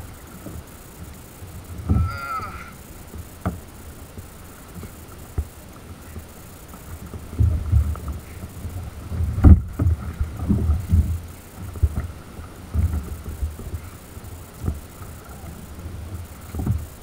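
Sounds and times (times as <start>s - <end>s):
choppy water slapping kayak: 0.0s - 17.0s.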